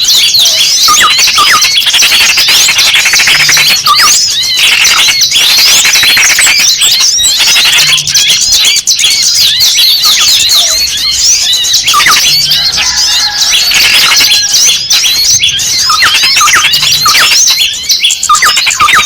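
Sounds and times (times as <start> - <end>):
songbirds chirping and squawking: 0.0 - 19.0.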